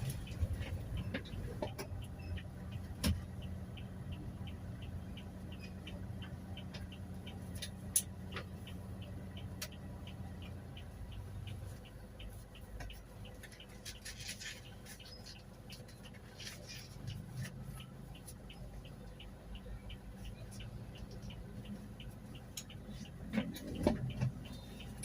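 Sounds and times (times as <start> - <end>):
engine humming inside cabin: 0.0 - 25.0
turn signal relay ticking: 0.0 - 25.0.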